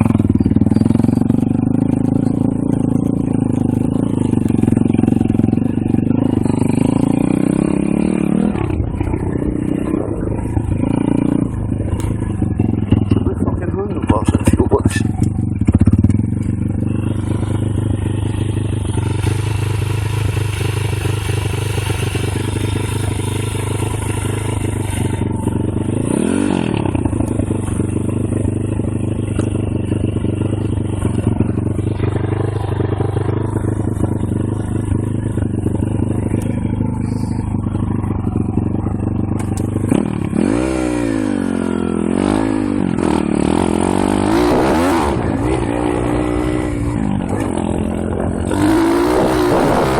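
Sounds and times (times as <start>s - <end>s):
motorbike engine revving: 0.0s - 49.9s.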